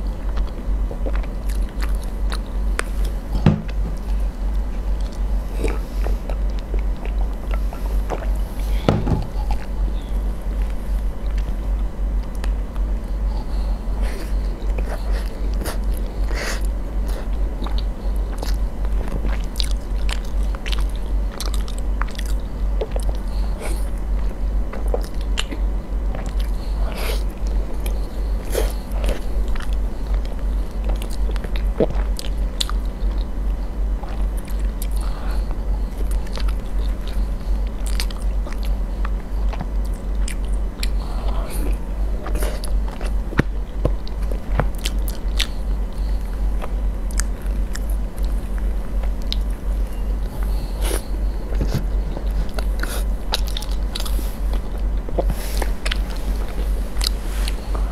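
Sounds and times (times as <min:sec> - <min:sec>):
pulsing low throb: 0:00.0 - 0:57.9
wet chewing and biting: 0:00.1 - 0:57.9.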